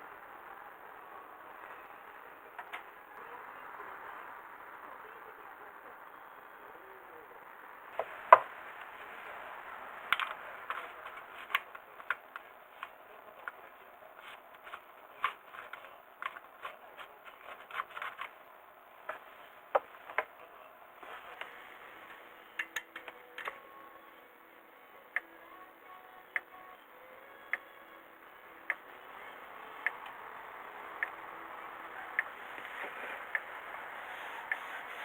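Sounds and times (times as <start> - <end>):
steady hiss: 0.0 - 23.0, 28.0 - 35.0.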